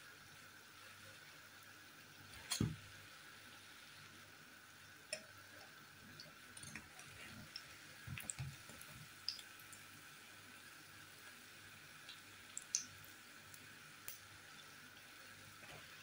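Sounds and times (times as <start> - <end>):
oil sizzling and popping: 1.1 - 16.0.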